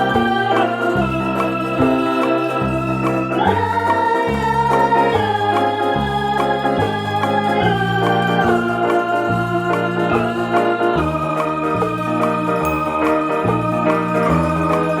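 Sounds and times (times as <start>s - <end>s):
electronic organ chords: 0.0s - 15.0s
steady bass line: 0.0s - 15.0s.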